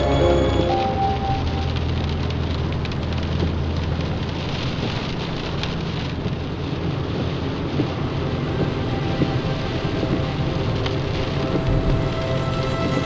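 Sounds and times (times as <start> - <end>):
car engine and road drone: 0.0 - 13.0
tyre and wind hiss: 1.8 - 13.0.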